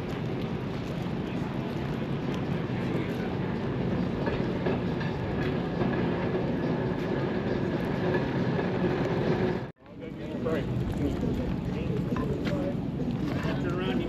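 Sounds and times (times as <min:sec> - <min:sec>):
rail vehicle rumbling: 0:00.0 - 0:14.0
wheels clicking on rails: 0:00.0 - 0:14.0.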